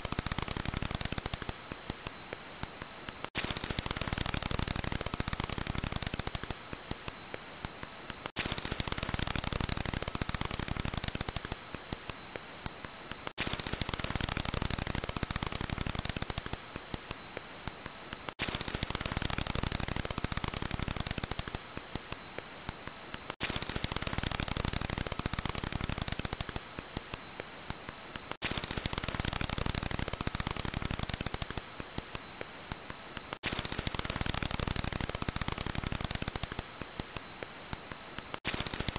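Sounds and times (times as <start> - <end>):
bat echolocation clicks: 0.0 - 38.9.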